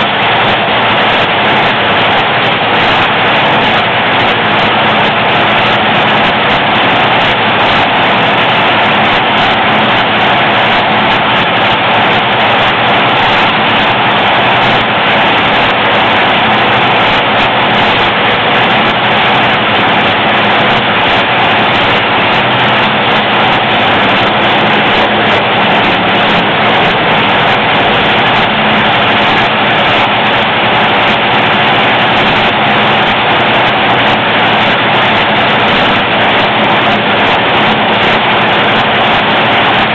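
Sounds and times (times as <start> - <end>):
dragster engine running loud: 0.0 - 39.9.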